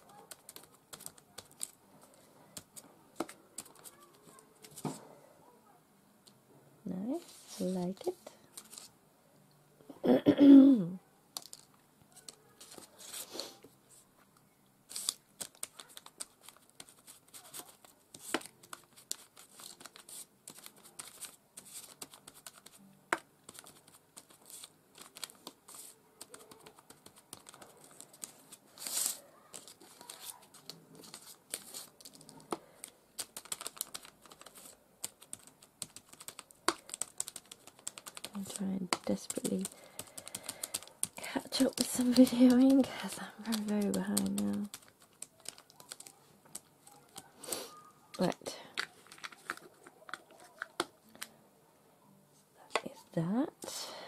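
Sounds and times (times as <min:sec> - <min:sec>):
paper rustling: 0:00.0 - 0:05.1, 0:07.2 - 0:08.9, 0:11.4 - 0:14.0, 0:14.9 - 0:51.3.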